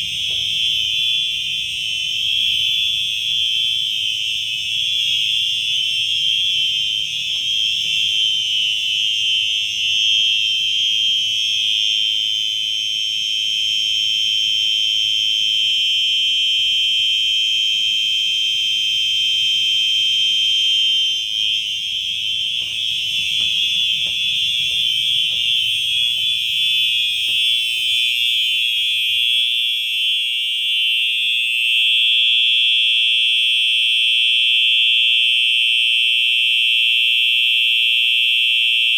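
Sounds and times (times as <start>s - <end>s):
fire alarm horns sounding: 0.0s - 38.9s.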